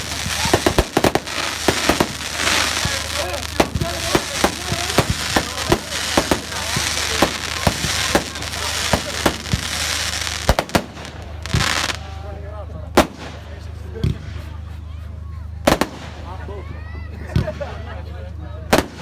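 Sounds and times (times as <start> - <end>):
fireworks cracking: 0.0 - 14.6, 15.6 - 16.6, 18.7 - 19.0.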